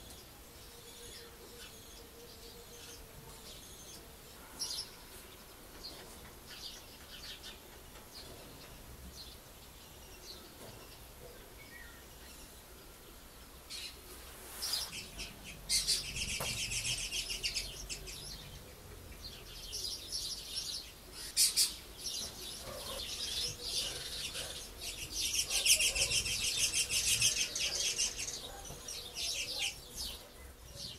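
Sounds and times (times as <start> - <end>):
birds chattering high-pitched: 0.0 - 30.9.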